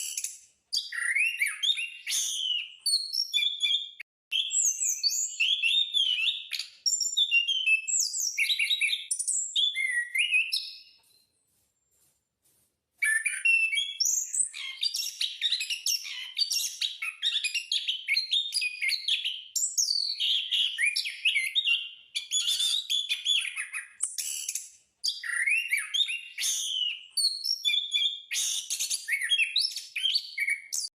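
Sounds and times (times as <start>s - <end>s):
thrush singing whistled song: 0.0s - 11.3s, 13.0s - 30.9s.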